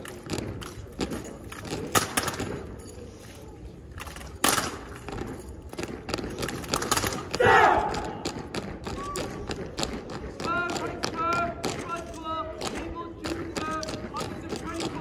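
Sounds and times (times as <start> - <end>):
rifles clacking and slapping: 0.0 - 15.0.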